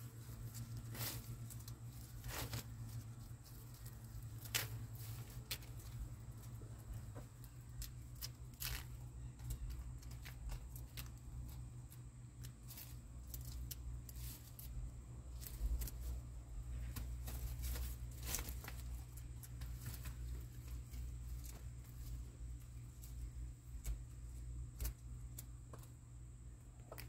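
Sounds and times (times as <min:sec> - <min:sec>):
hens pecking and tearing leaves: 0:00.0 - 0:27.0.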